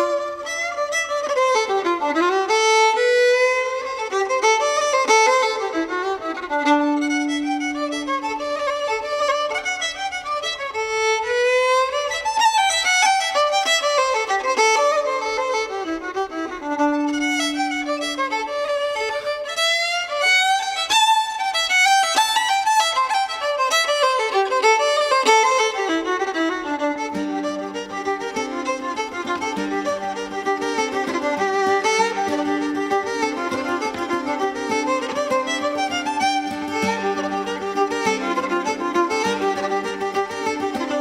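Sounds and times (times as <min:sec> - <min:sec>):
fiddle playing a tune: 0:00.0 - 0:41.0.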